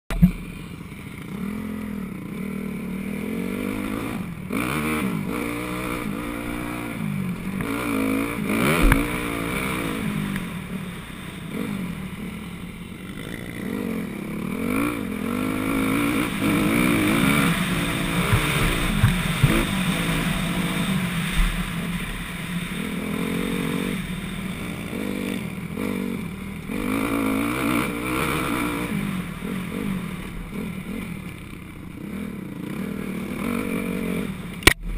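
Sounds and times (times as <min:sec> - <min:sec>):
dirt bike engine revving: 0:00.1 - 0:34.8.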